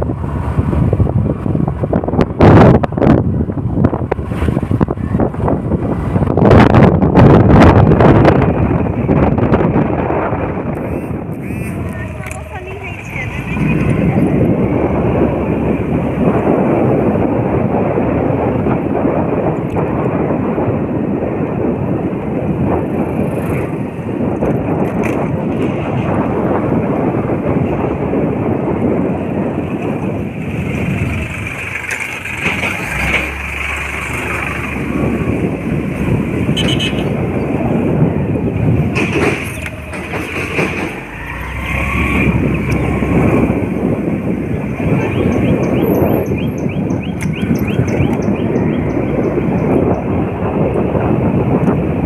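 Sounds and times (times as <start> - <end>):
vehicle moving along a road: 0.0 - 52.0.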